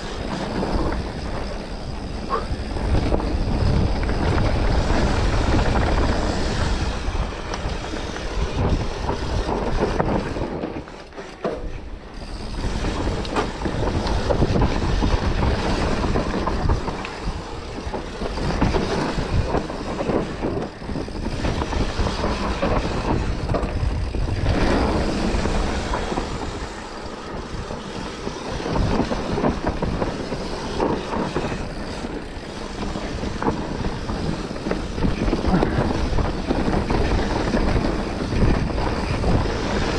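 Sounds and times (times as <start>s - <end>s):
bike tyre and rattle noise: 0.0s - 39.9s
wind rushing over microphone: 0.0s - 39.9s.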